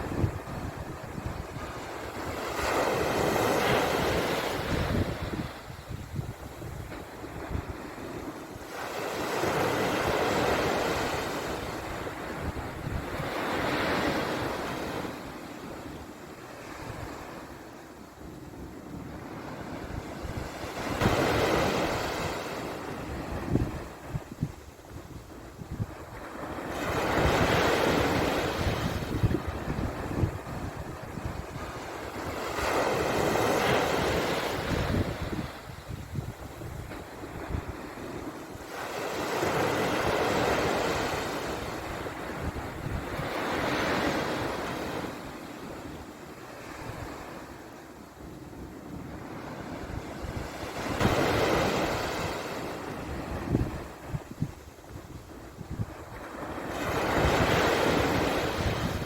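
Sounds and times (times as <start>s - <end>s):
wind buffeting microphone: 0.0s - 17.6s, 18.2s - 46.0s, 48.2s - 59.0s
ocean waves breaking: 0.0s - 59.0s.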